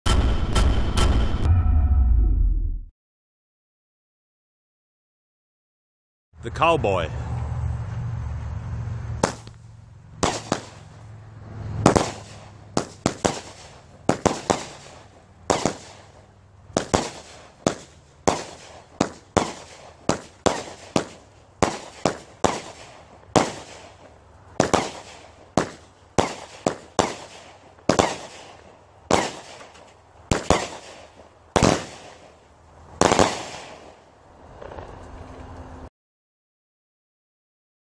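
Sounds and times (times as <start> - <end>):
fireworks shots and aerial bursts: 0.1 - 1.5, 6.4 - 35.5.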